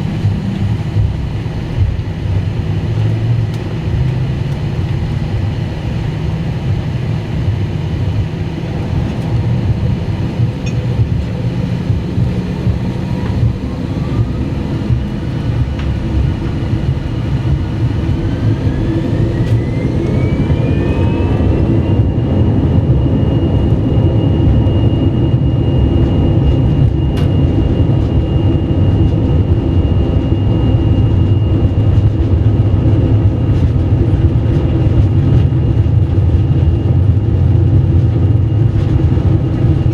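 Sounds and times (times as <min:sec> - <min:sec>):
jet engines whine rising: 0:00.0 - 0:39.9
low engine rumble: 0:00.0 - 0:39.9.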